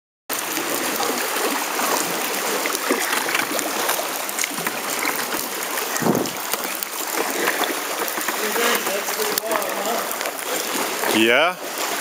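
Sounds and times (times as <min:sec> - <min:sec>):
water dripping: 0:00.3 - 0:12.0
water lapping against rock walls: 0:00.3 - 0:12.0.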